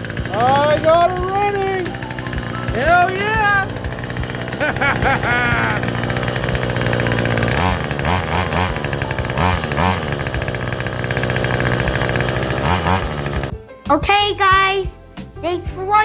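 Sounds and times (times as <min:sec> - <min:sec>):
chainsaw engine revving: 0:00.0 - 0:13.5.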